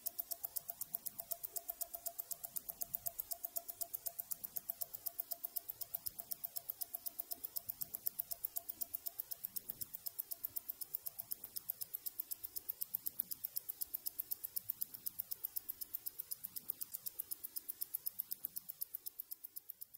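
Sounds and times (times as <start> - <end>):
mechanical watch ticking: 0.0 - 19.9.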